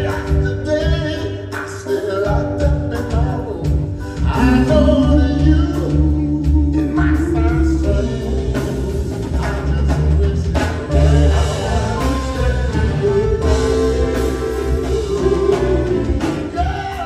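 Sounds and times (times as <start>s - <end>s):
backing band playing: 0.0s - 17.0s
soul vocal group singing: 0.0s - 17.0s.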